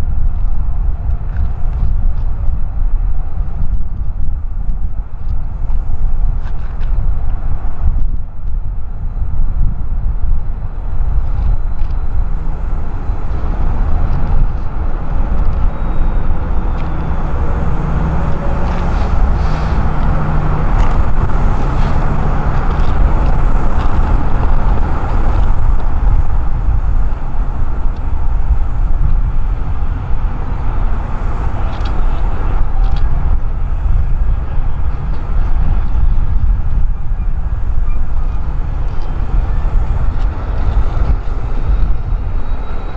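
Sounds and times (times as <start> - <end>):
diesel engine hum: 0.0 - 42.9
wind buffeting microphone: 0.0 - 42.9
train rumbling past: 8.4 - 42.9.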